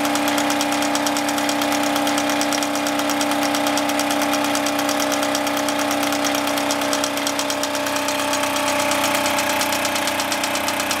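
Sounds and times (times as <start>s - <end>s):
hum of belt-driven machines: 0.0s - 11.0s
toy steam engine chuffing: 0.0s - 11.0s.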